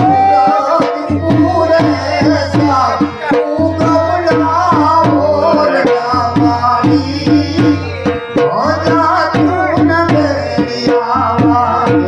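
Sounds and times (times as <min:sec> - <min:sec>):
dhol drum beating: 0:00.0 - 0:12.0.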